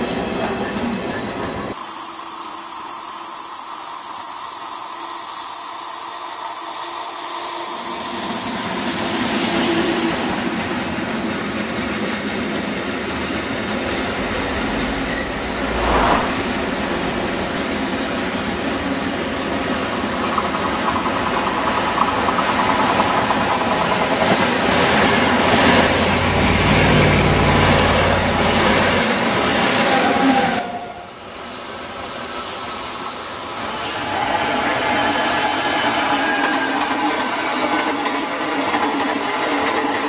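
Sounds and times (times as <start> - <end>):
train rumbling on rails: 0.0 - 2.0, 4.7 - 40.0.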